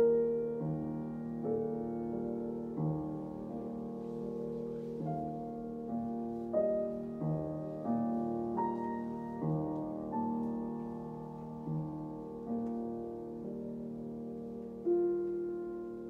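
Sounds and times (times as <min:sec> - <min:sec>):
slow soft piano chords: 0:00.0 - 0:16.0.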